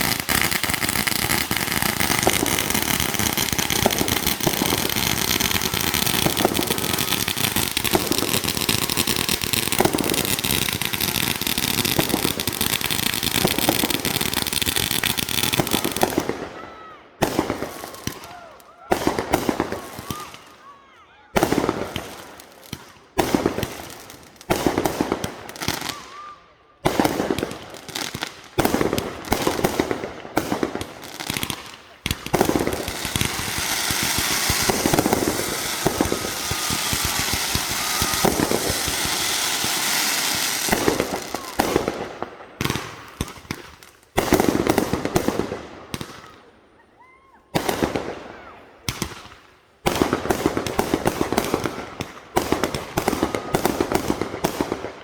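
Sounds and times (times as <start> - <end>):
fireworks banging and crackling: 0.0 - 20.7, 21.3 - 55.0.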